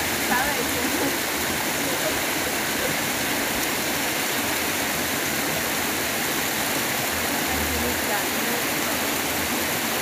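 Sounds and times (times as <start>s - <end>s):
creek water running over rocks: 0.0s - 10.0s.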